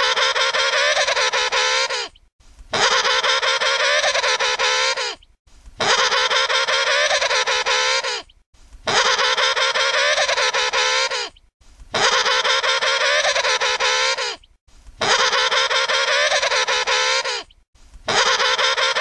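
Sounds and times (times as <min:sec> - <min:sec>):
penguin trumpeting call: 0:00.0 - 0:02.1, 0:02.7 - 0:05.2, 0:05.8 - 0:08.2, 0:08.9 - 0:11.3, 0:11.9 - 0:14.4, 0:15.0 - 0:17.5, 0:18.1 - 0:19.0.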